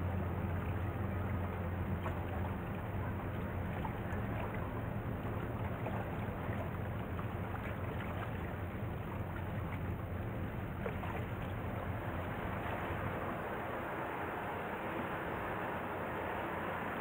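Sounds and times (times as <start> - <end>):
boat engine drone: 0.0 - 17.0
faint wash of water: 0.0 - 17.0.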